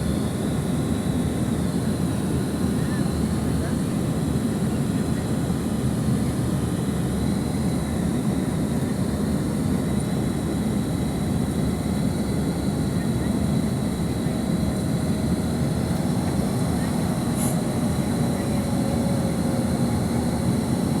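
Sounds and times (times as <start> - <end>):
low rumble of engines and airflow: 0.0 - 21.0.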